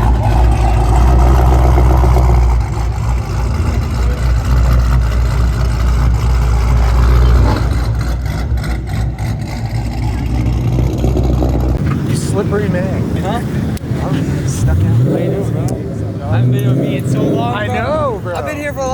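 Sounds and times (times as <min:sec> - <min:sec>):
low car engine rumble: 0:00.0 - 0:18.9.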